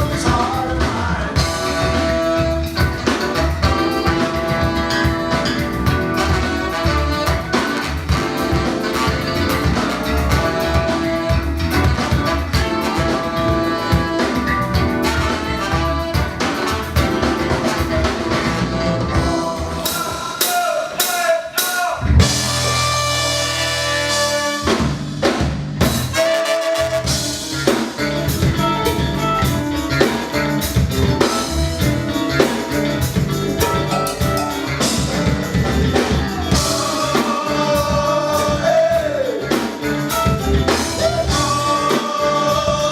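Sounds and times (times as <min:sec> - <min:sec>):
live band through pa: 0:00.0 - 0:42.9.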